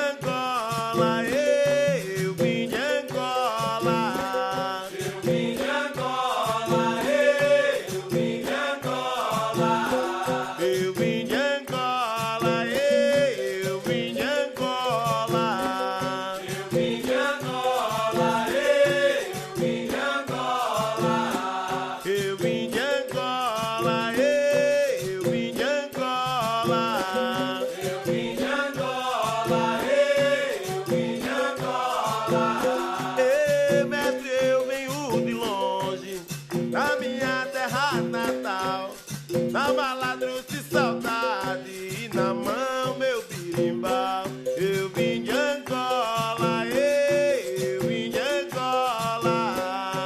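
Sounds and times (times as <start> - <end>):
people singing: 0.0 - 50.0
percussive instruments with steady beat: 0.0 - 50.0.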